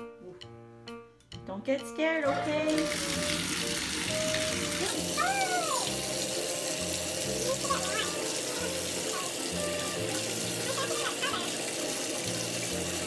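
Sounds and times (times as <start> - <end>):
faucet running into tub: 2.3 - 13.0.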